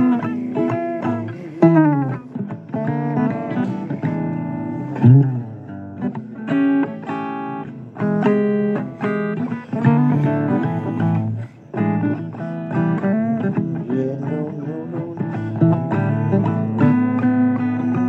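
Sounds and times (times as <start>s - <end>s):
blues guitar playing: 0.0s - 18.0s.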